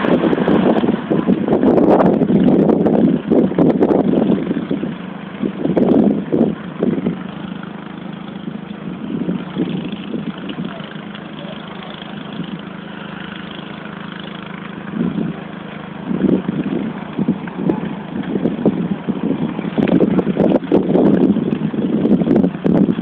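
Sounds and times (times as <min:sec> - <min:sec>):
engine hum: 0:00.0 - 0:23.0
wind buffeting microphone: 0:00.0 - 0:23.0.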